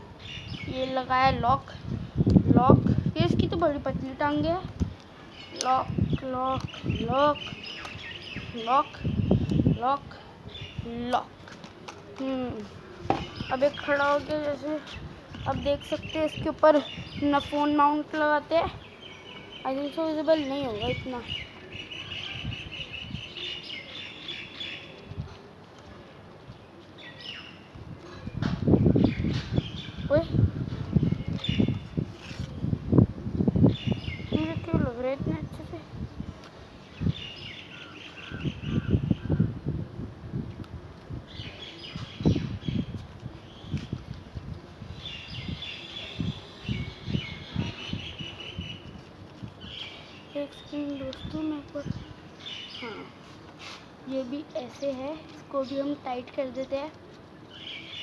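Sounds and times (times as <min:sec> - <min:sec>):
small birds chirping: 0:00.2 - 0:39.9, 0:40.6 - 0:58.0.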